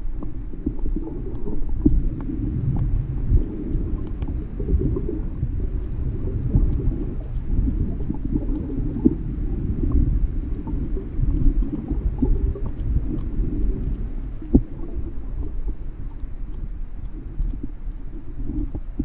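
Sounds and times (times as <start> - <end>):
muffled underwater water rumble: 0.0 - 19.0
faint clicks: 0.1 - 19.0.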